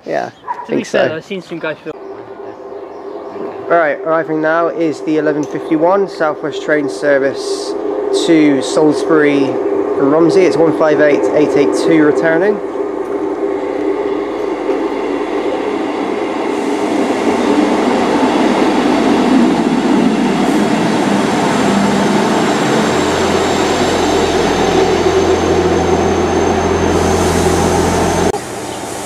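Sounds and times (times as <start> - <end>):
rail noise: 0.0 - 29.0
diesel train engine: 0.8 - 29.0
deep hum: 1.9 - 28.4.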